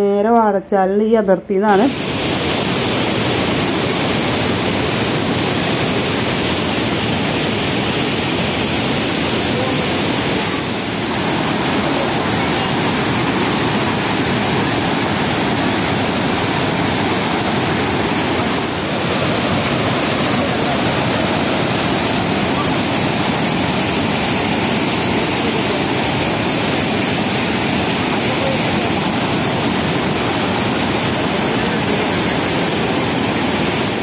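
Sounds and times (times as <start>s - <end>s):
waterfall rapids rushing: 1.9s - 34.0s.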